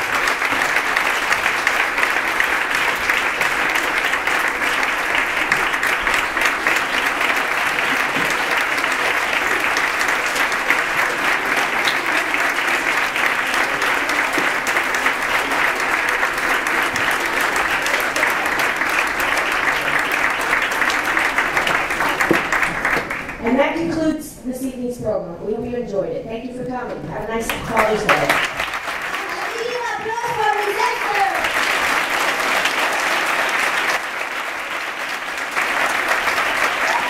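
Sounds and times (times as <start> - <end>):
audience applauding: 0.0 - 23.4, 27.5 - 37.0.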